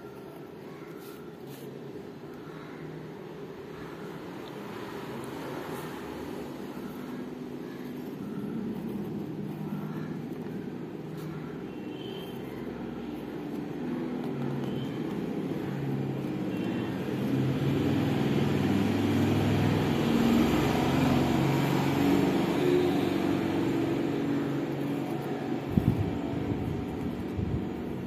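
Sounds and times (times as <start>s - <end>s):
vehicle engine hum: 4.7s - 28.0s.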